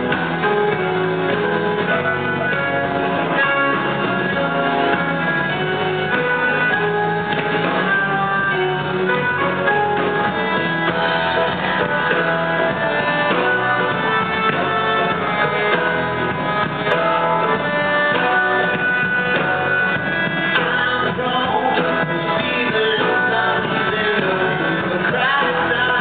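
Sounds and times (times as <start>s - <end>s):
drums: 0.0s - 26.0s
electric guitar: 0.0s - 26.0s
rock band playing: 0.0s - 26.0s.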